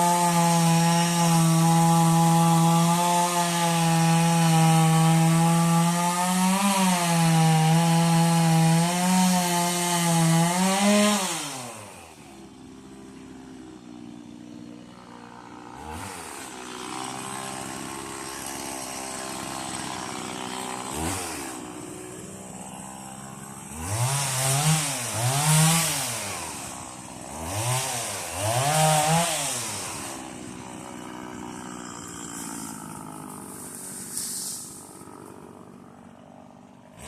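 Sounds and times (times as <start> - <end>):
chainsaw revving and idling: 0.0 - 37.0.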